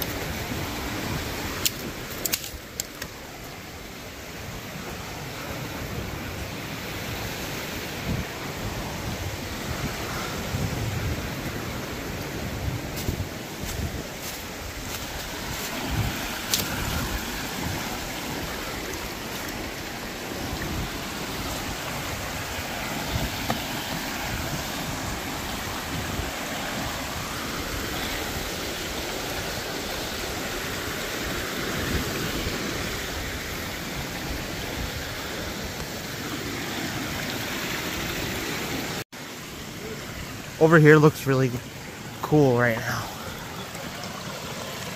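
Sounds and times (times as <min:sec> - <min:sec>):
mountain river rushing: 0:00.0 - 0:44.9.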